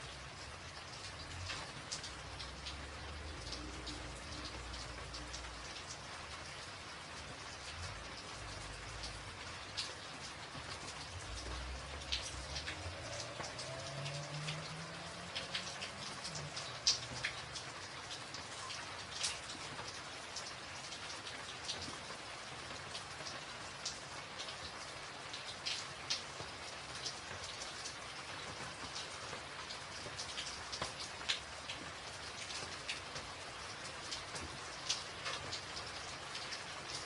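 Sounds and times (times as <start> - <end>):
rain on a tin roof: 0.0 - 37.0.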